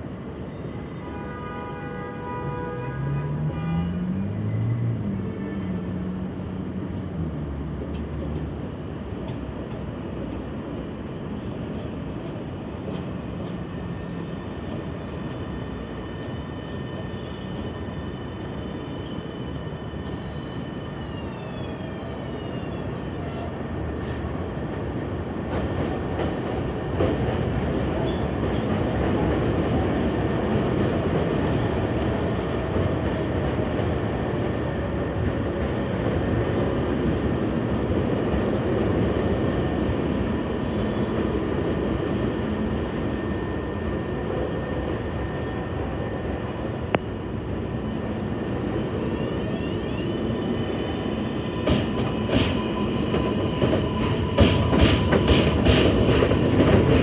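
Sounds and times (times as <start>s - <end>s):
subway train electric motors whining: 4.0s - 57.0s.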